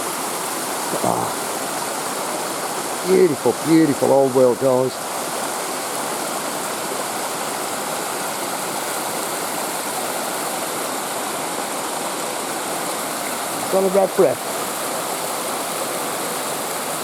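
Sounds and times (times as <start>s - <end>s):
stream rushing over falls: 0.0s - 17.0s.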